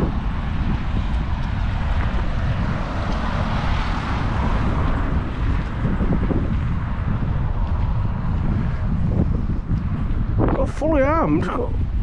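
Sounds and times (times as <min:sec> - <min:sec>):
city traffic rumble: 0:00.0 - 0:12.0
wind buffeting microphone: 0:00.0 - 0:12.0.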